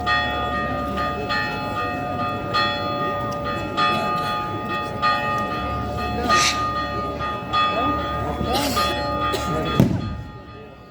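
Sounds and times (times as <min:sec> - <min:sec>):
church bell ringing: 0:00.0 - 0:10.9.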